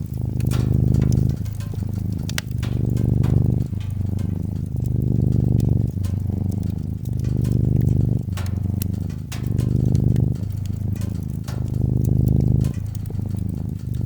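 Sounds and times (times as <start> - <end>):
cat purring: 0.0 - 14.0
wood fire crackling: 0.0 - 14.0.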